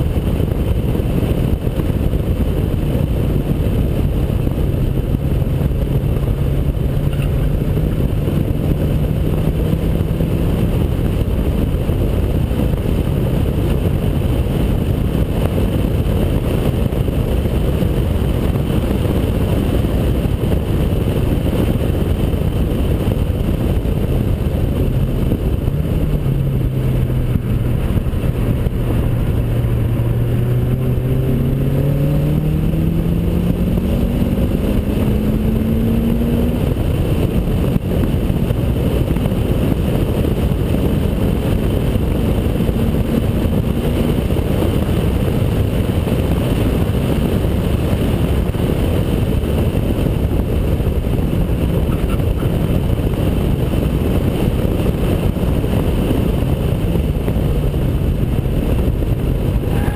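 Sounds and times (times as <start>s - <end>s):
car engine revving: 0.0s - 59.9s
wind buffeting: 0.0s - 59.9s.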